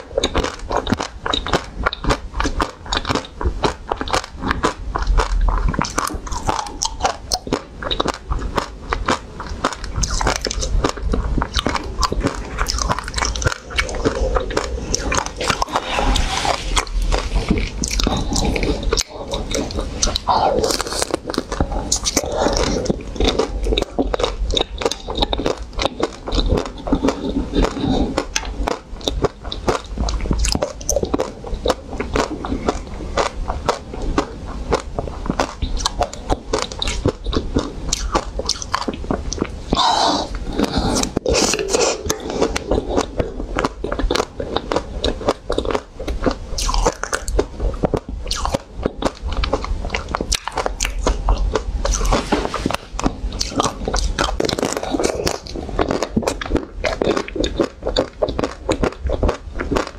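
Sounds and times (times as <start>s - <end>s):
ice cream bar crunching: 0.0s - 59.9s
mouth clicks: 0.0s - 59.9s.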